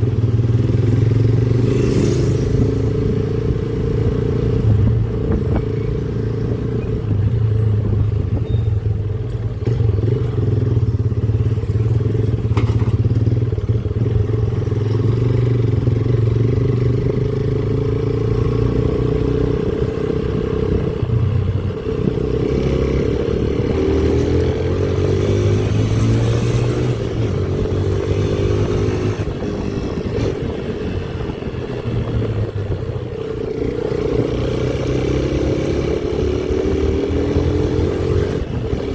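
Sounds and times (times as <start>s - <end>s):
motorcycle engine accelerating: 0.0s - 8.5s, 9.3s - 38.9s.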